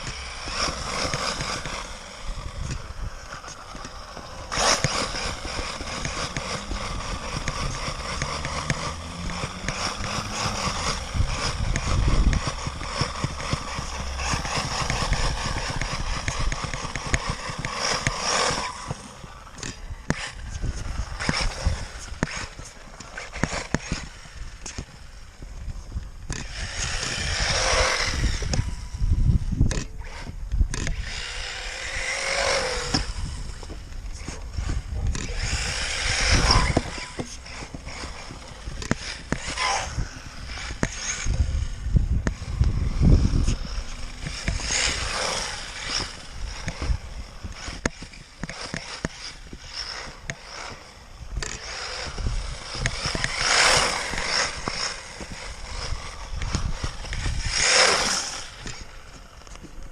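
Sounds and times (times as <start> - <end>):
rc buggy drive noise: 0.0 - 59.9.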